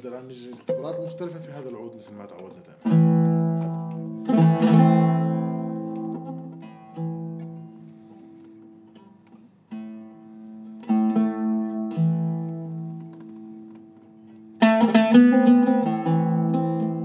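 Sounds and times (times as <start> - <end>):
oud strings plucked with plectrum: 0.6 - 17.0.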